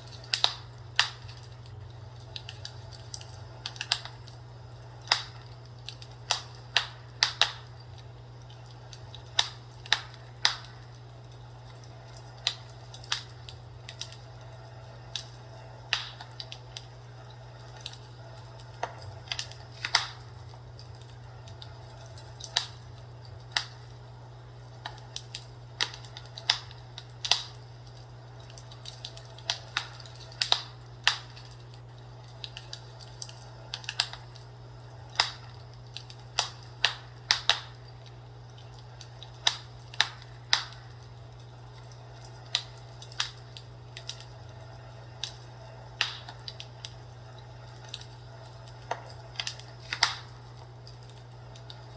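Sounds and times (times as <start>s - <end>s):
fireplace crackling: 0.0s - 51.9s
steady low hum: 0.0s - 51.9s.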